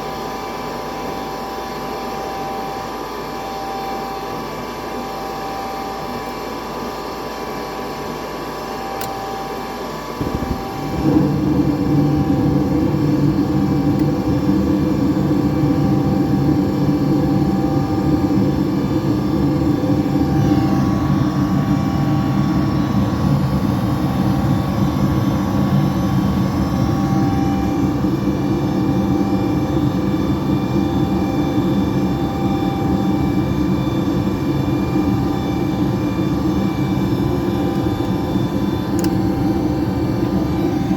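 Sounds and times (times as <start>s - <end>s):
faint high whine: 0.0s - 40.9s
gas furnace humming: 0.0s - 40.9s.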